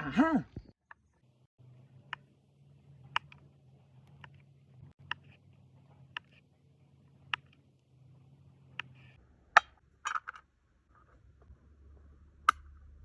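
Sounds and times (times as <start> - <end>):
faint low hum: 0.9 - 13.0.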